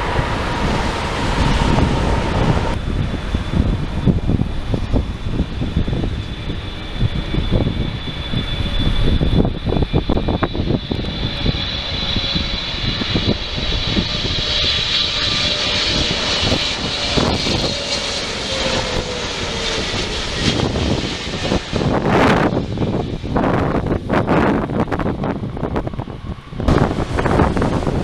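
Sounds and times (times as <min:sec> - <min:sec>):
jet airliner passing: 0:00.0 - 0:28.0
wind buffeting microphone: 0:00.0 - 0:28.0.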